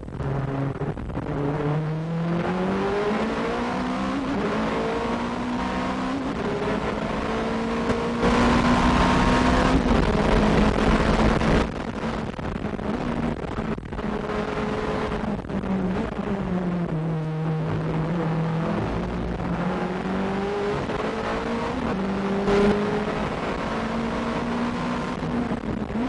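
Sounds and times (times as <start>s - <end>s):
race car engine accelerating: 0.2s - 26.0s.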